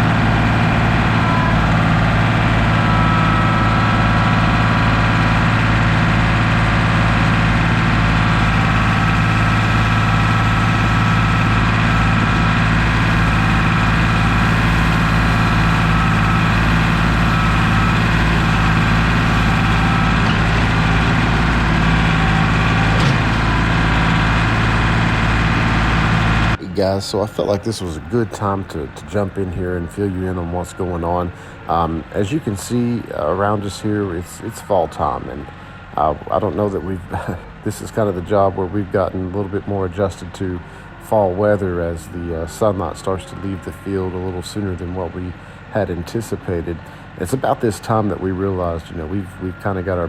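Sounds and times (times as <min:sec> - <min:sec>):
heavy equipment engine idling: 0:00.0 - 0:50.0.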